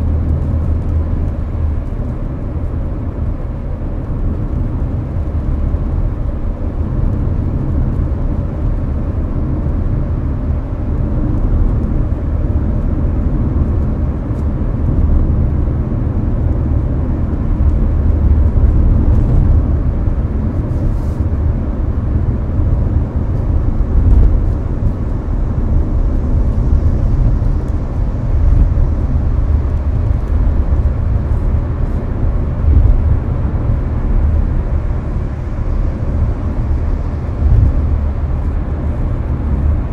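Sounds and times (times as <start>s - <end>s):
air-conditioning fan: 0.0s - 39.9s
car road and engine rumble: 0.0s - 39.9s.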